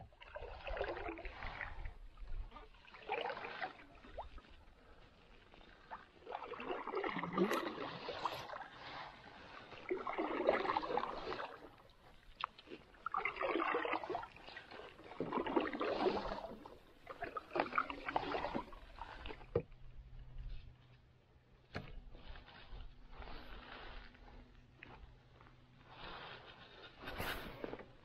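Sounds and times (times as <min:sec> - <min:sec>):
canoe paddle strokes in water: 0:00.0 - 0:28.0.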